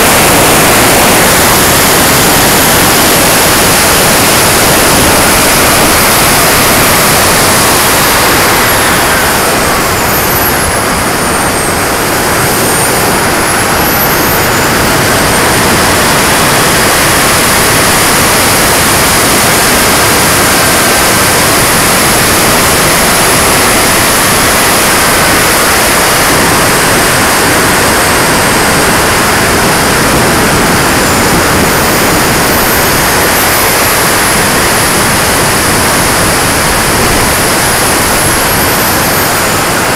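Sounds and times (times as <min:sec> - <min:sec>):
high turbine whine: 0:00.0 - 0:39.9
wind and jet engine rush: 0:00.0 - 0:39.9.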